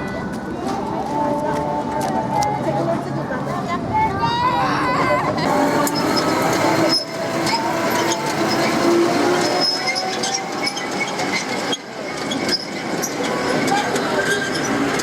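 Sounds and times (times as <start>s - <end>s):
tram running on track: 0.0s - 15.0s.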